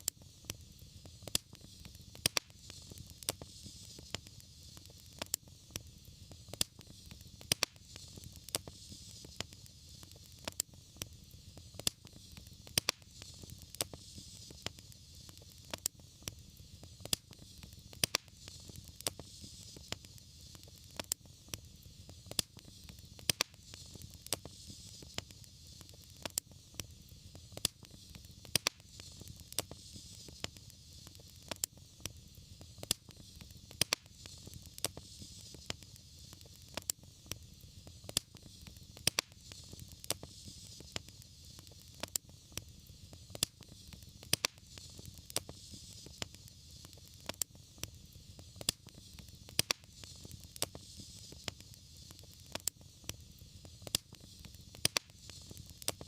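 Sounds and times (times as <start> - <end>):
soft hiss: 0.0 - 56.0
wood fire crackling: 0.0 - 56.0.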